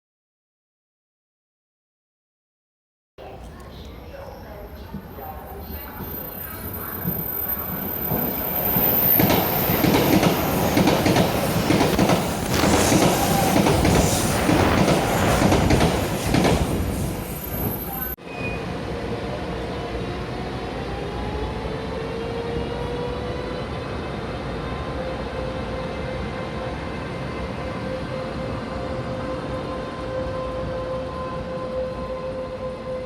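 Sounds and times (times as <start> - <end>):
commuter train running noise: 3.2 - 33.0.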